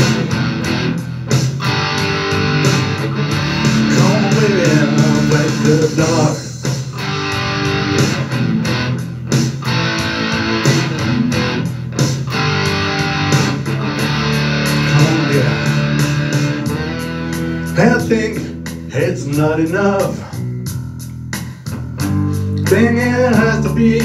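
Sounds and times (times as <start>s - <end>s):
electric guitar over rock backing: 0.0s - 24.0s.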